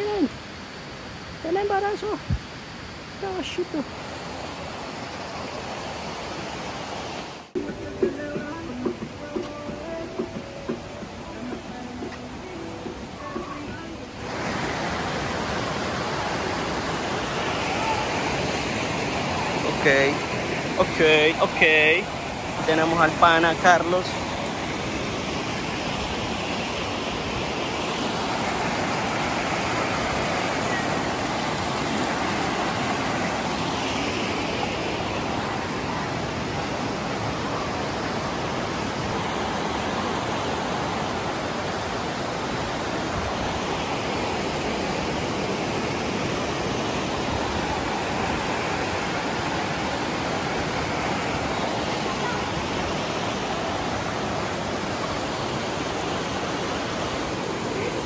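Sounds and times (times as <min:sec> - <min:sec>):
river water rushing over rapids: 0:00.0 - 0:58.0.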